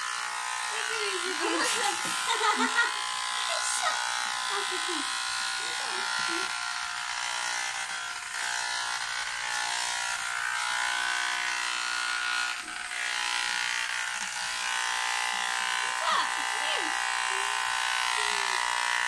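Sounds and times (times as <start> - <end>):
electric hair clipper buzzing: 0.0 - 19.0.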